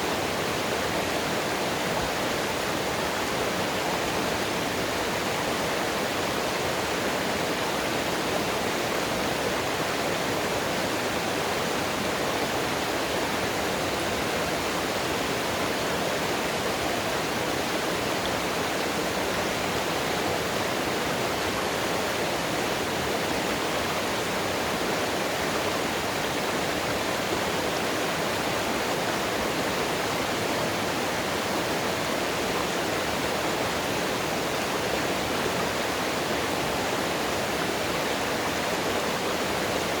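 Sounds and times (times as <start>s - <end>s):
water rushing: 0.0s - 40.0s.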